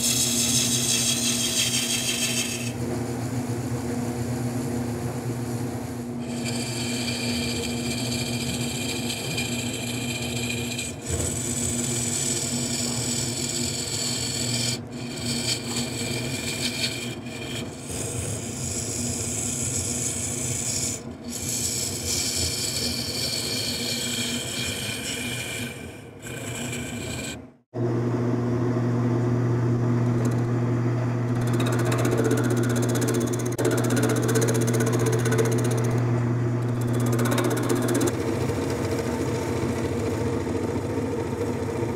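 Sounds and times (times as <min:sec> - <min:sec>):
lathe tool rasping wood: 0:00.0 - 0:02.8, 0:06.2 - 0:27.4, 0:31.3 - 0:36.0, 0:36.6 - 0:41.9
lathe motor hum: 0:00.0 - 0:41.9.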